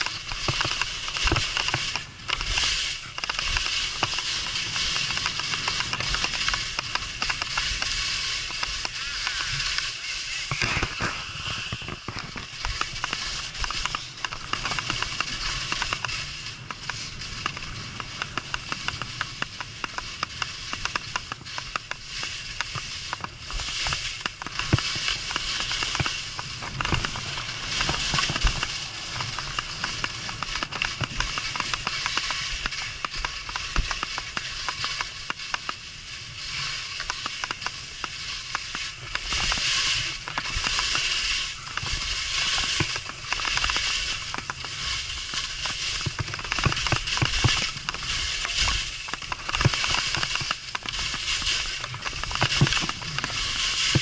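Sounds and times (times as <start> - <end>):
skis scraping over snow: 0.0 - 54.0.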